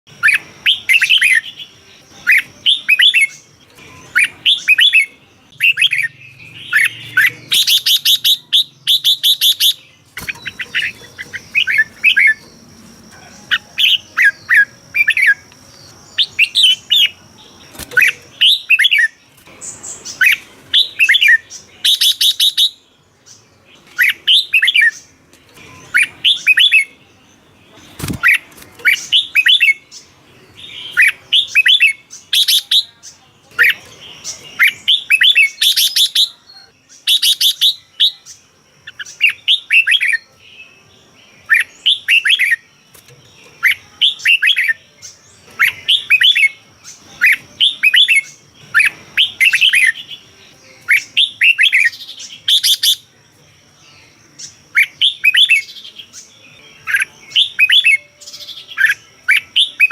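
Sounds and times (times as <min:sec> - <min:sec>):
harsh buzzy bird calls: 0:00.1 - 0:40.3, 0:41.0 - 0:53.1
bird singing whistled notes: 0:00.1 - 0:59.9.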